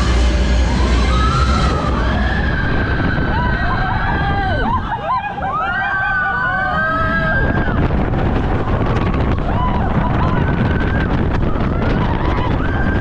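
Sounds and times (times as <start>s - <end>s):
roller coaster wheels rumbling on track: 0.0s - 13.0s
wind rush over microphone: 0.0s - 13.0s.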